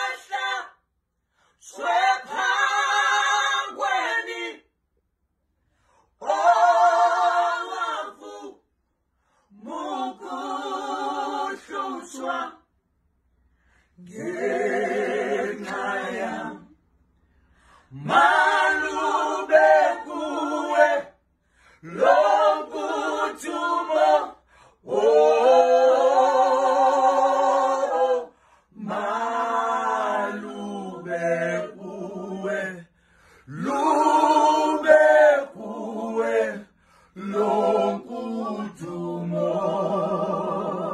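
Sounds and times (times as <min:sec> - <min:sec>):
vocal group singing in harmony: 0:00.0 - 0:04.8, 0:05.7 - 0:12.8, 0:13.5 - 0:40.9.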